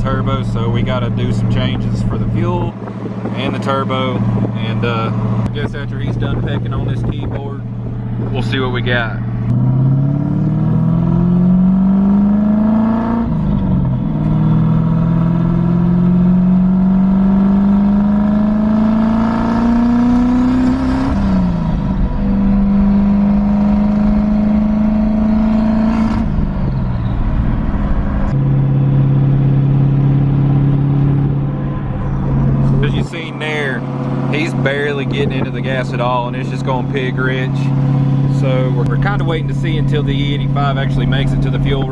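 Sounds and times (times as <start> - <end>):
engine accelerating through gears: 0.0 - 41.9.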